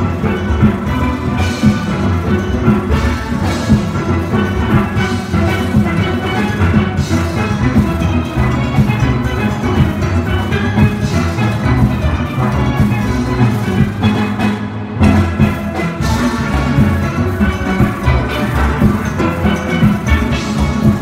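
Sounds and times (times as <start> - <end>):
steel band playing: 0.0 - 21.0.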